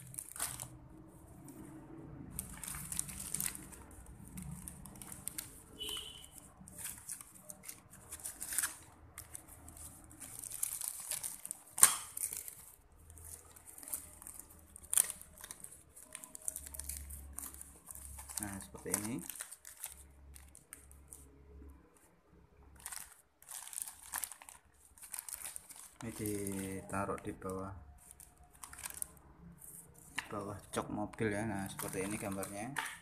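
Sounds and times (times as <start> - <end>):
plastic wrapping crinkling: 0.0 - 33.0.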